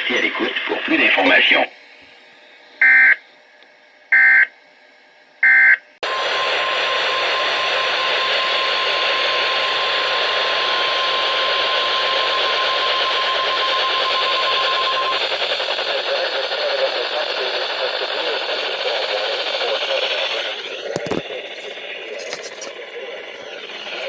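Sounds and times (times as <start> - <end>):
radio static hiss: 0.0 - 2.1, 6.0 - 24.0.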